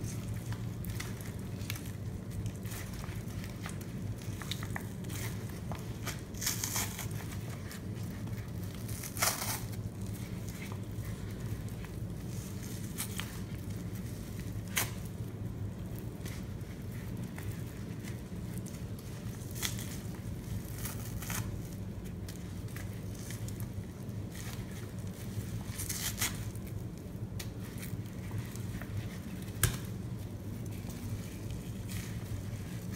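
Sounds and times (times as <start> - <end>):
steady low hum: 0.0 - 32.9
wet sponge squeezing: 0.0 - 32.9.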